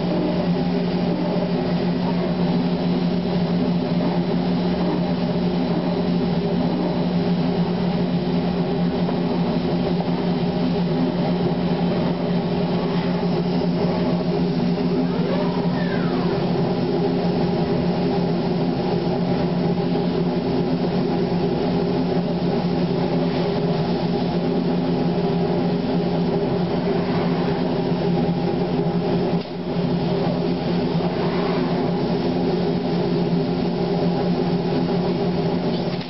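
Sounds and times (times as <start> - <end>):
industrial machine humming: 0.0 - 36.0.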